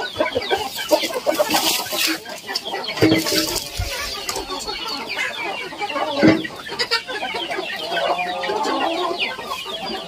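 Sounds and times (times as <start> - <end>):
chickens clucking and chirping: 0.0 - 10.0.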